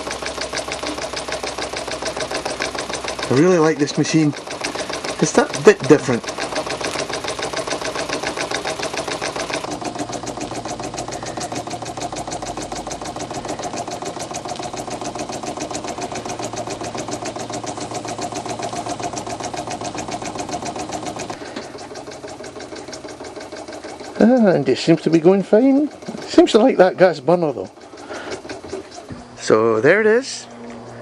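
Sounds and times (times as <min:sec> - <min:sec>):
toy steam engine beating: 0:00.0 - 0:31.0.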